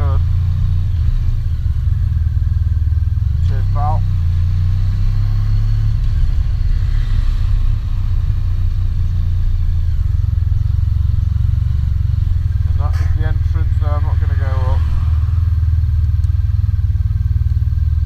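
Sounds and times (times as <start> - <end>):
motorcycle engine drone: 0.0 - 18.0.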